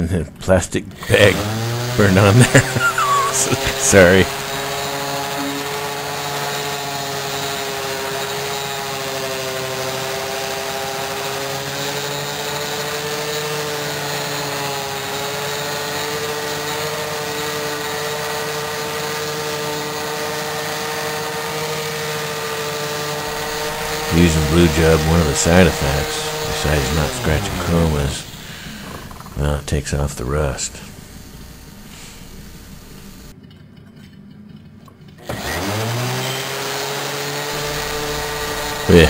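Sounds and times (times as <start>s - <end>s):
orbital sander whine: 1.0s - 33.3s, 35.2s - 39.0s.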